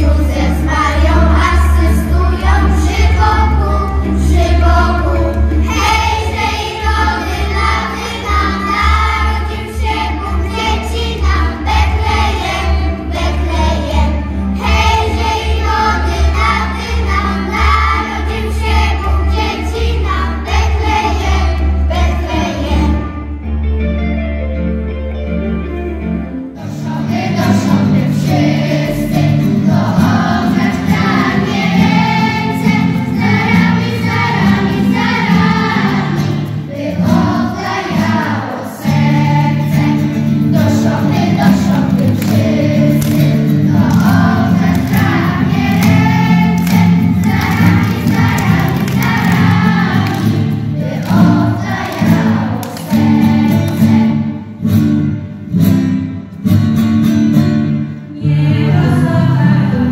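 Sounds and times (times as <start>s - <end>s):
choir singing a carol: 0.0s - 23.2s, 26.6s - 54.6s, 58.1s - 59.9s.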